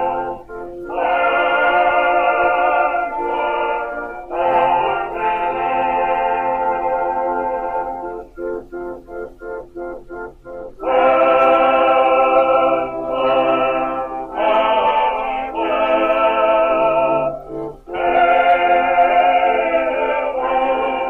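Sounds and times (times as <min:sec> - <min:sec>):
long held chords: 0:00.0 - 0:21.0
short repeated chords: 0:00.0 - 0:21.0.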